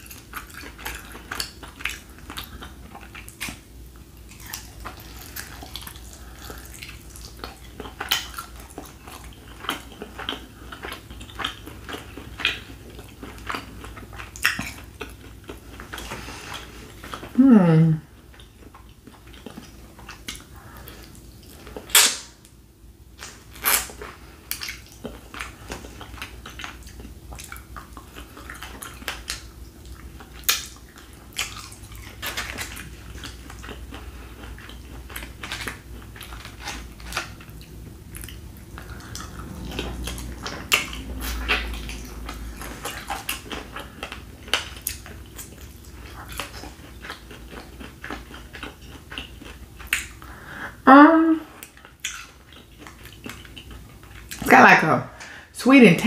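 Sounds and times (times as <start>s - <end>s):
person chewing: 0.0s - 22.5s, 23.2s - 54.5s
faint steady hum: 0.0s - 56.0s.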